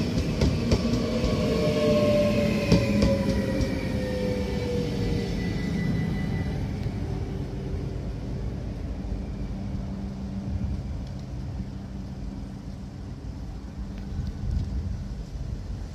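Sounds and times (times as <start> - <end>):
electric train rumbling away: 0.0 - 15.9.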